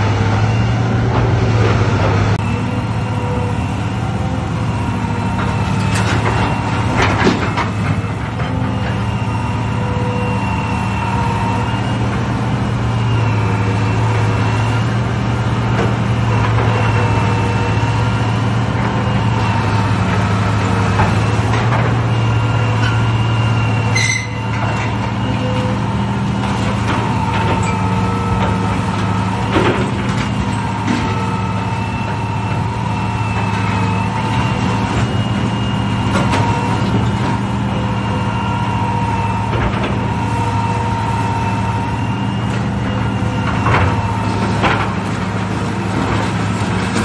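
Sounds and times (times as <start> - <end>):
diesel engine under load: 0.0 - 47.0.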